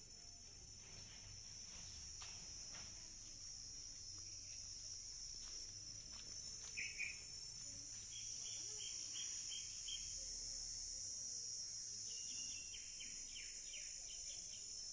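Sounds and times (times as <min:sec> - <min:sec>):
crickets trilling: 0:00.0 - 0:14.9.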